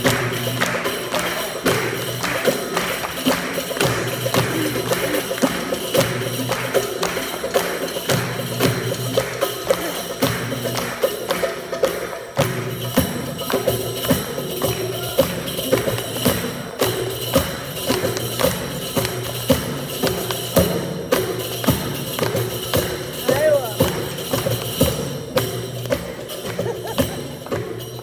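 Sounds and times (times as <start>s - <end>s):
hand percussion strikes: 0.0s - 28.0s.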